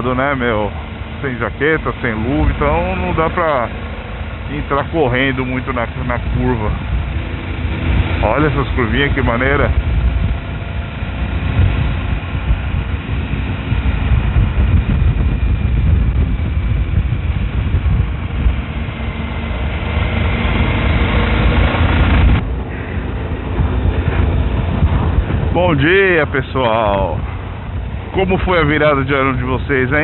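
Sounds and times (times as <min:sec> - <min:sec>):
low wind rumble on microphone: 0:00.0 - 0:30.0
motorcycle engine running: 0:00.0 - 0:30.0.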